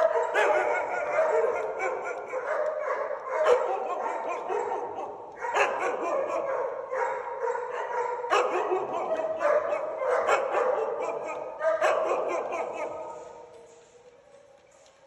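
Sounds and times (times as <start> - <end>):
husky howling: 0.0 - 14.6.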